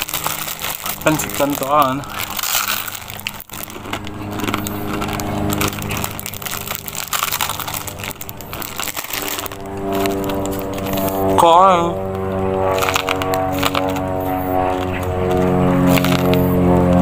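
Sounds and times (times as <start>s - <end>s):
dry noodles crunching: 0.0s - 17.0s.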